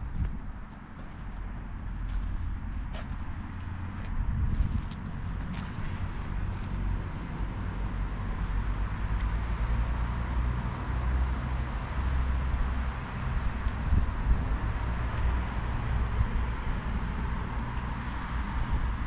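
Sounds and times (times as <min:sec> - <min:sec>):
pickup engine and road rumble: 0:00.0 - 0:19.0.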